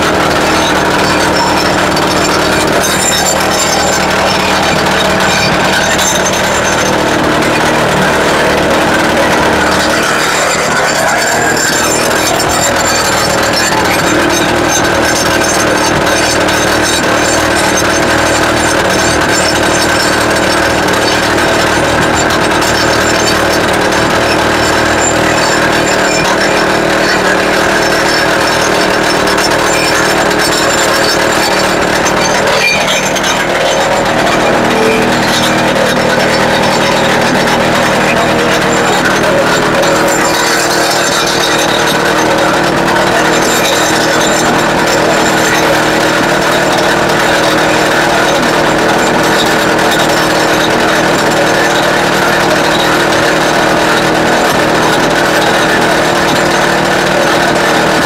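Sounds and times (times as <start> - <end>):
petrol rock drill hammering: 0.0 - 58.0.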